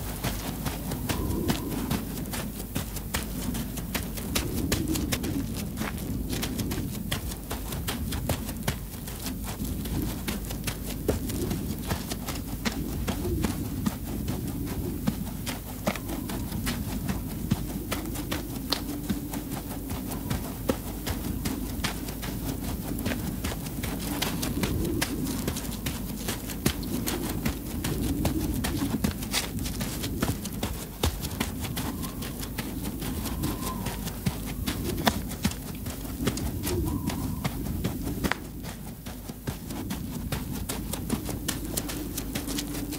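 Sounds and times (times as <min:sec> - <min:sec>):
footsteps on muddy dirt road: 0:00.0 - 0:42.9
steady low rumble: 0:00.0 - 0:42.9.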